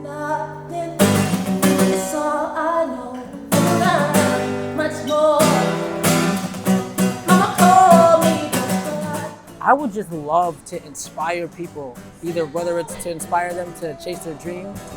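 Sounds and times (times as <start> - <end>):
person singing: 0.0 - 14.9
strummed acoustic guitar: 0.0 - 14.9.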